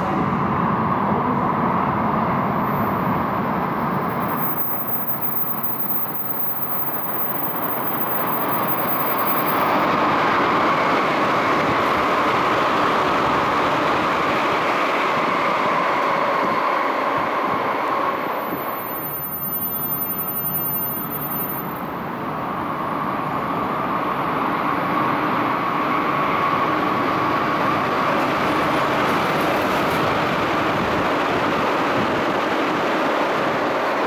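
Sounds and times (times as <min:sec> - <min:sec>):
electric train running through tunnel: 0:00.0 - 0:34.0.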